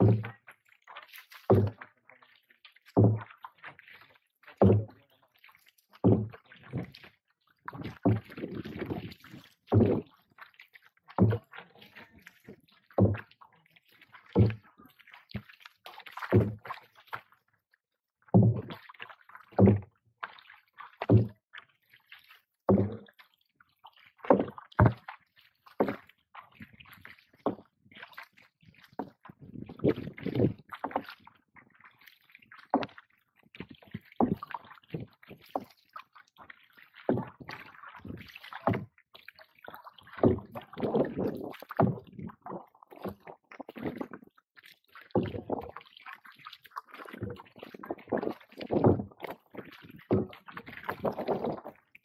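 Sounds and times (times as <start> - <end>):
paddle strokes thumping and splashing: 0.0 - 17.6, 18.2 - 52.0
faint water sloshing: 0.0 - 52.0.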